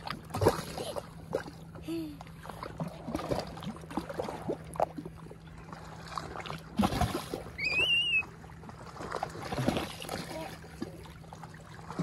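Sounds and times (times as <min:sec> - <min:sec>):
water lapping at shoreline: 0:00.0 - 0:12.0.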